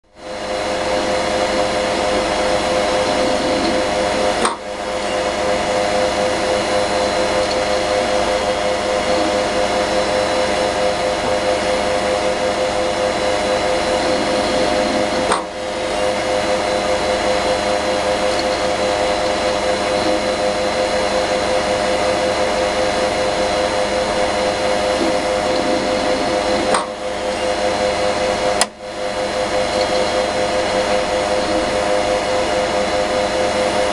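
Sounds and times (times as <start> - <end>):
hard disk drive whirring: 0.1 - 33.9.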